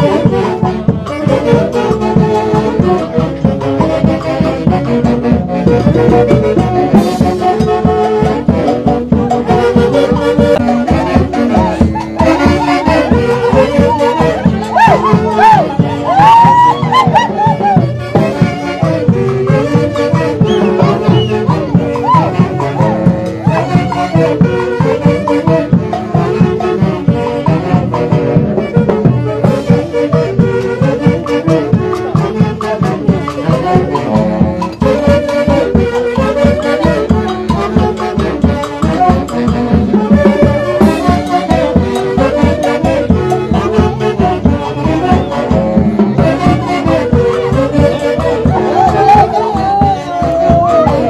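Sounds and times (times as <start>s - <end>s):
wind band music: 0.0s - 51.0s.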